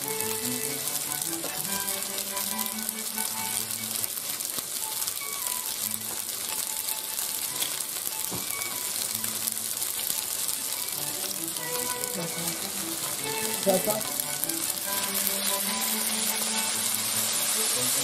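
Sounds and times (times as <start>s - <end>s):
pasta sizzling in oil: 0.0s - 18.0s
soft background music: 0.0s - 18.0s.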